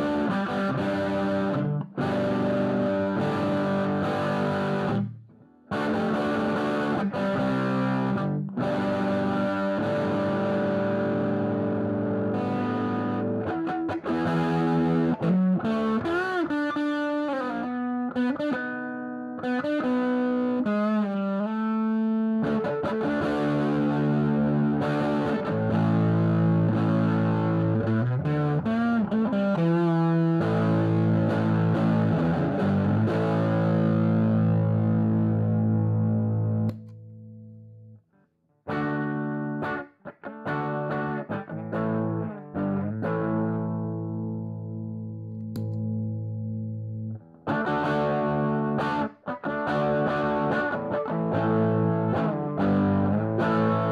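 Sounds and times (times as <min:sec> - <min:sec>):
distorted electric guitar: 0:00.0 - 0:38.0, 0:38.7 - 0:53.9.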